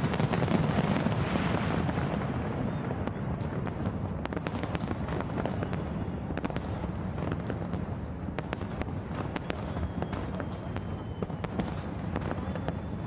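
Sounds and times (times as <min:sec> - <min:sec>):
fireworks booming: 0:00.0 - 0:13.0
fireworks cracks and crackles: 0:00.0 - 0:13.0.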